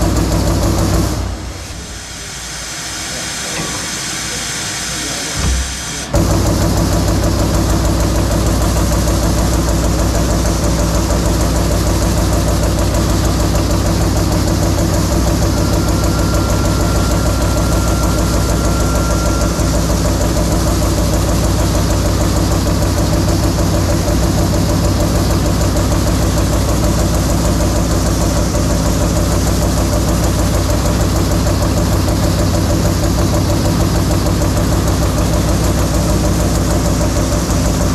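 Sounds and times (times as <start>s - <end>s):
machine drive hum: 0.0s - 37.9s.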